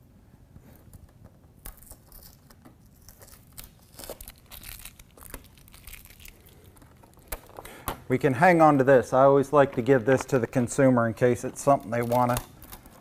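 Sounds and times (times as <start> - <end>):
tape and plastic film peeling: 0.8 - 13.0.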